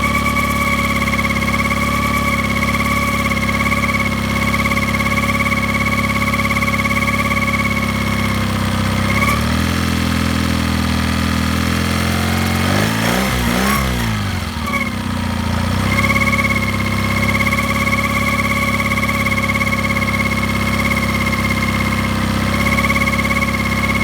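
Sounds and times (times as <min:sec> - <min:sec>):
outboard engine running: 0:00.0 - 0:24.0.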